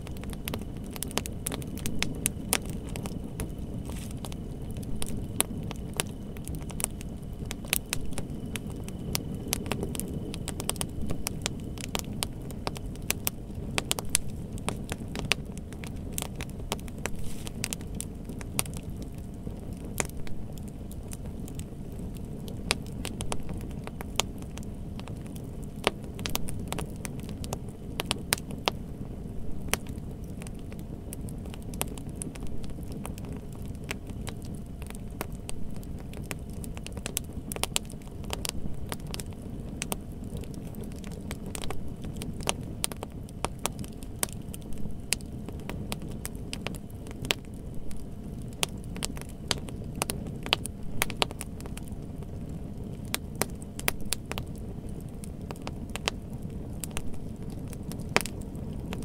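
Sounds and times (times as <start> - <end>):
fire crackles and pops: 0.0 - 59.0
fire flames rushing: 0.0 - 59.0.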